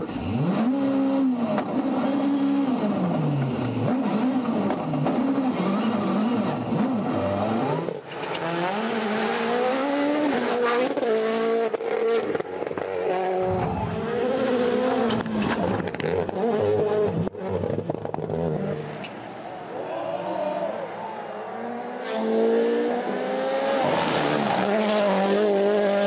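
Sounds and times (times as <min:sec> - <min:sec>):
rally car engine revving: 0:00.0 - 0:19.0, 0:21.5 - 0:26.0.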